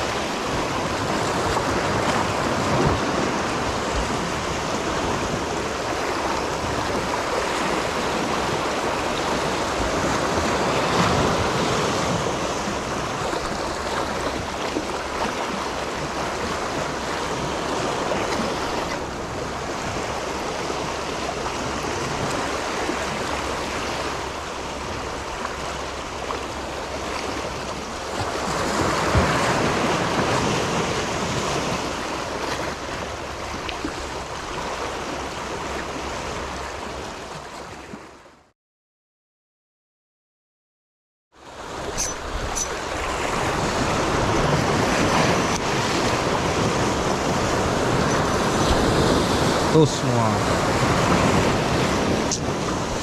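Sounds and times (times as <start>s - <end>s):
surf washing against rocks: 0.0s - 38.1s, 41.4s - 53.0s.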